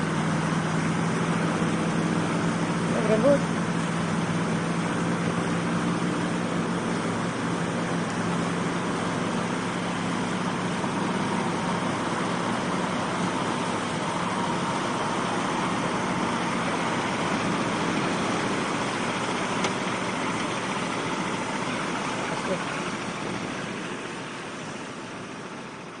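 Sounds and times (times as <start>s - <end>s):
low engine hum: 0.0s - 26.0s
vehicle engine running: 0.0s - 26.0s.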